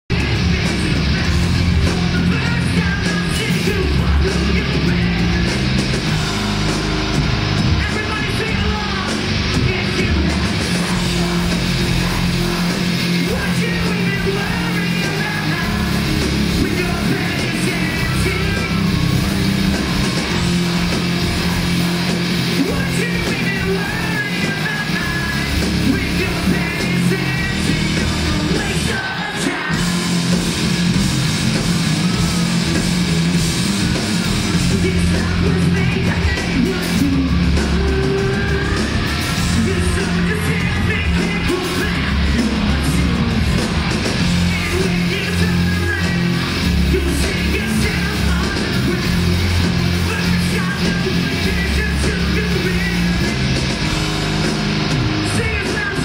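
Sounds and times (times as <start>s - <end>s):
distorted guitars: 0.0s - 56.0s
drums: 0.0s - 56.0s
live rock band playing loud: 0.1s - 56.0s
sung and yelled vocals: 0.1s - 56.0s.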